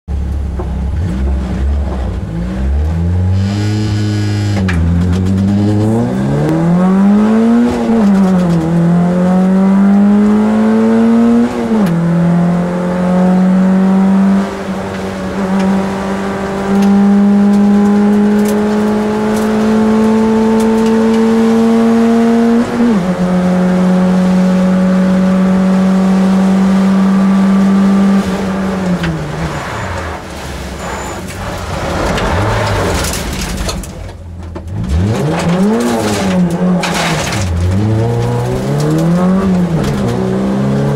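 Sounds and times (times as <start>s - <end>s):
car engine accelerating: 0.1s - 40.9s.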